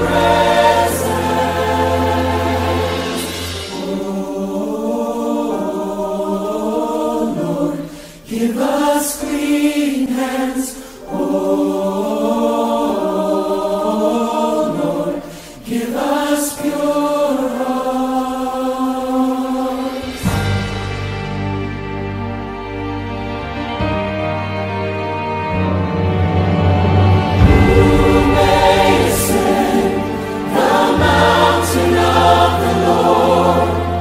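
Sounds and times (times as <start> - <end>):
choir singing chant: 0.0 - 20.7, 26.8 - 34.0.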